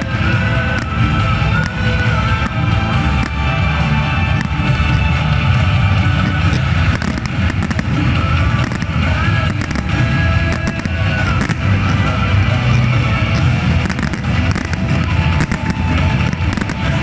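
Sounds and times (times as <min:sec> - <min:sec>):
fireworks bangs: 0:00.0 - 0:17.0
loud music: 0:00.0 - 0:17.0.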